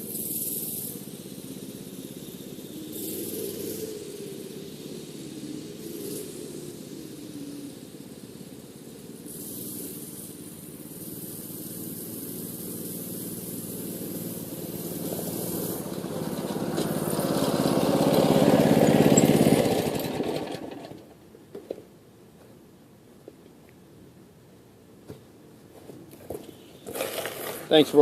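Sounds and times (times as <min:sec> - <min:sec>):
small engine running: 0:00.0 - 0:21.2, 0:26.2 - 0:28.0.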